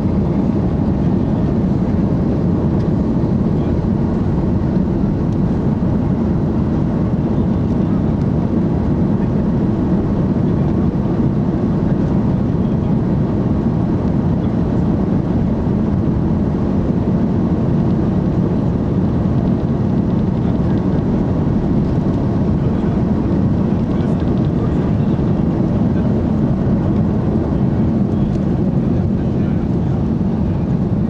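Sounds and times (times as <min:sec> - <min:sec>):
jet engines rumbling in cabin: 0:00.0 - 0:31.0.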